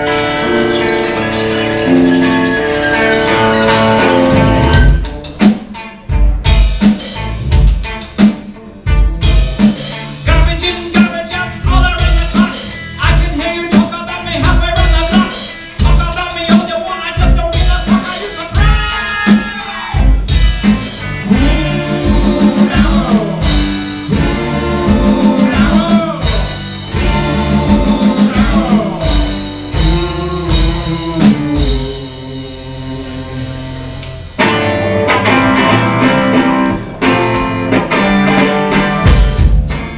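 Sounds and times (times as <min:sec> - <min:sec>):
drum kit beat: 0:00.0 - 0:39.9
live band music: 0:00.0 - 0:39.9.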